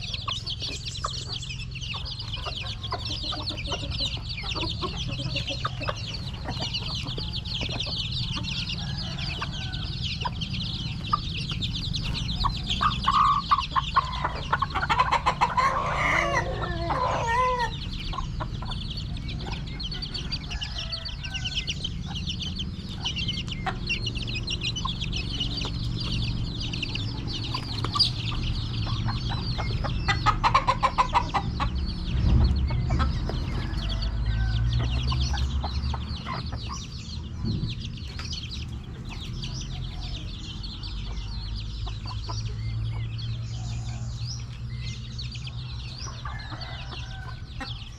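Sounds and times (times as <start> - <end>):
chickens clucking and chirping: 0.0 - 47.9.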